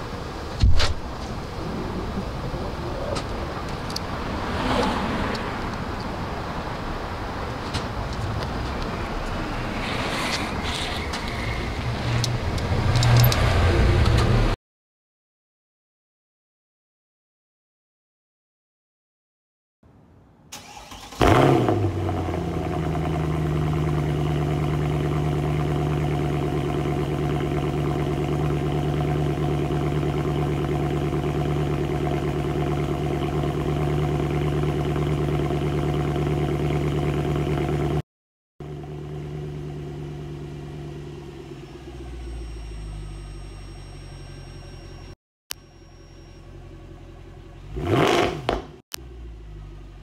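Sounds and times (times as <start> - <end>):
car engine starting and idling: 0.0 - 14.6, 20.5 - 38.0, 38.6 - 50.0.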